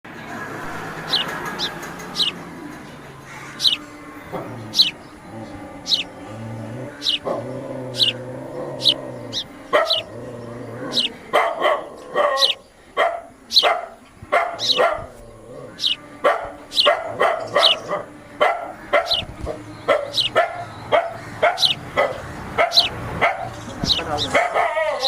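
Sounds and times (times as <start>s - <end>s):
sparrows chirping: 0.2s - 25.0s.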